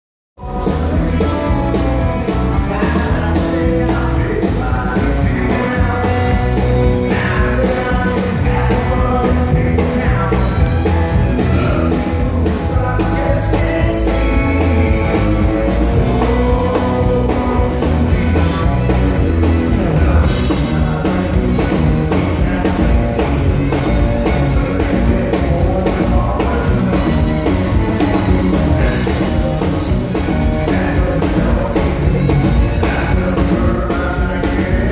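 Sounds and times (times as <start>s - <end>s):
country band playing: 0.4s - 34.9s.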